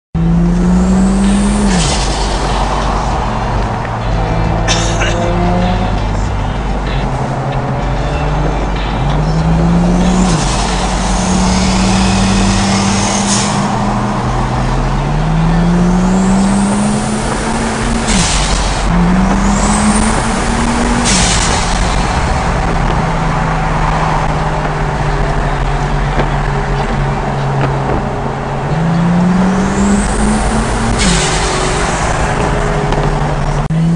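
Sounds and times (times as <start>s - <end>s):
car engine revving: 0.2s - 33.9s.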